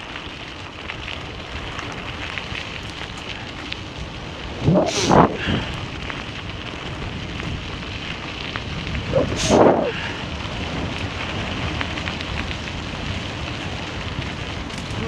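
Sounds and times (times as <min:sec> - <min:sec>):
tyres crunching on gravel: 0:00.0 - 0:15.0.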